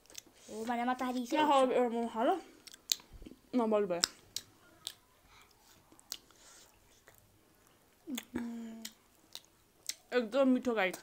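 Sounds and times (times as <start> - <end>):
people chewing food: 0.0 - 1.3, 2.0 - 10.2.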